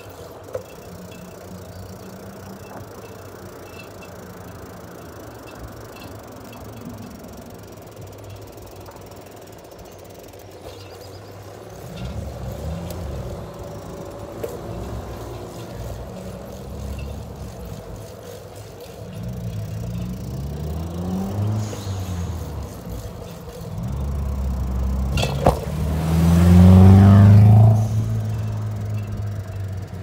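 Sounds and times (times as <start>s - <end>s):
bicycle road noise on asphalt: 0.0s - 30.0s.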